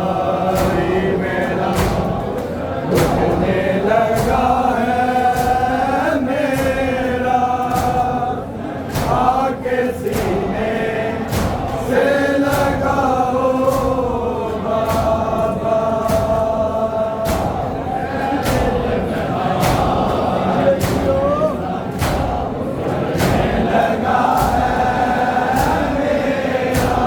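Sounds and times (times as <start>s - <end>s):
men chanting together: 0.0s - 27.0s
rhythmic sharp slaps: 0.0s - 27.0s.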